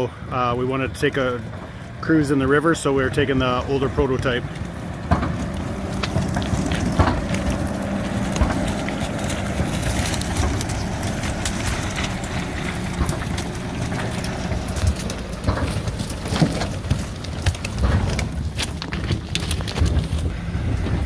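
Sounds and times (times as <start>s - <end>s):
vehicle engine running: 0.0s - 21.0s
clicks and knocks: 3.6s - 21.0s.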